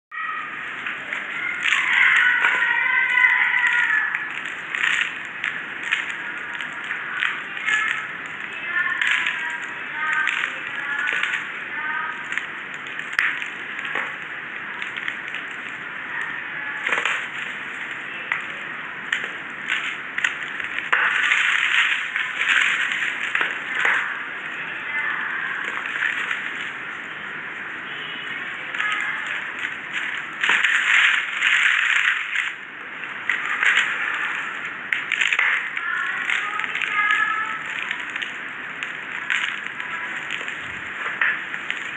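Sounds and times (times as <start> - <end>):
chalky lumps crunching: 0.2 - 41.9
dry clay crumbling crackle: 0.2 - 41.9
grains pattering onto paper: 0.2 - 41.9.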